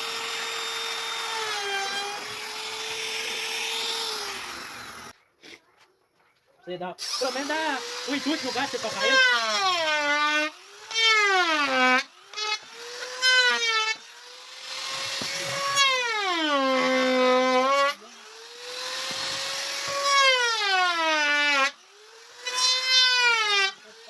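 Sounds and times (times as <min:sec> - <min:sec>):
electric power tool cutting wood: 0:00.0 - 0:05.1, 0:07.0 - 0:24.0.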